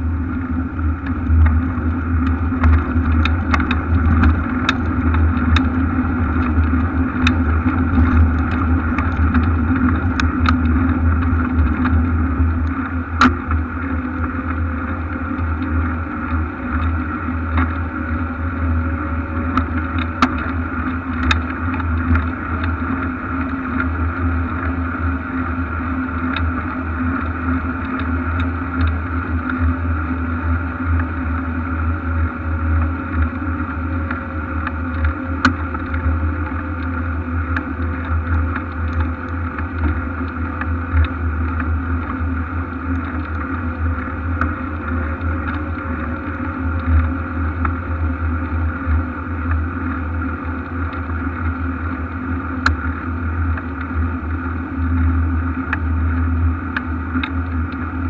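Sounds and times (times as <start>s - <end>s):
muffled wind rumble: 0.0s - 58.0s
road noise: 0.0s - 58.0s
sharp clicks from bumps: 0.0s - 58.0s.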